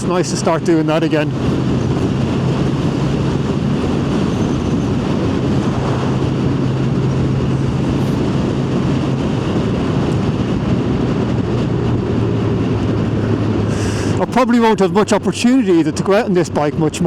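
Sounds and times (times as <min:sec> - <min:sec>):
motorcycle engine cruising: 0:00.0 - 0:15.9
wind and road noise: 0:00.0 - 0:17.0.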